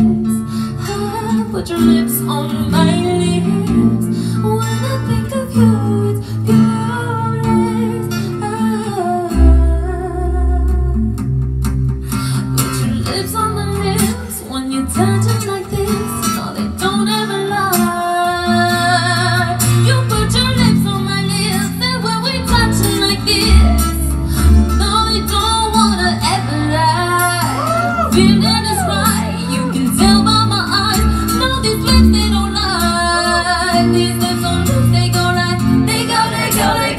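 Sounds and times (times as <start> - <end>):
woman singing into microphone: 0.0 - 11.0, 12.8 - 36.9.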